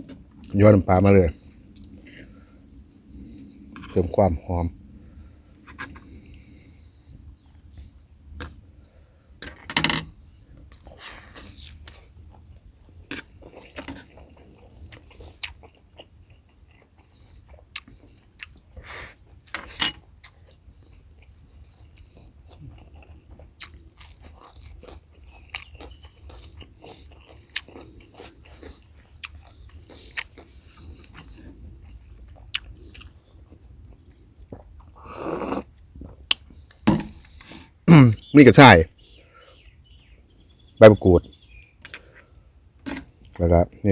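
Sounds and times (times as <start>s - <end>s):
crickets trilling: 0.0s - 43.9s.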